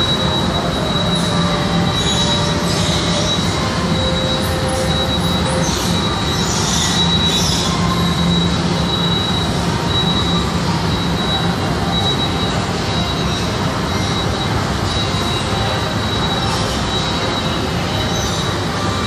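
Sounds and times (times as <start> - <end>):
high whine: 0.0 - 19.0
moving walkway rumble: 0.0 - 19.0.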